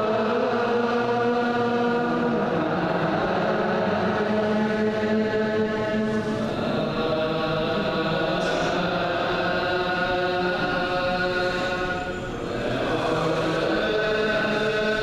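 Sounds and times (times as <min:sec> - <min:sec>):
group chanting in long held notes: 0:00.0 - 0:15.0.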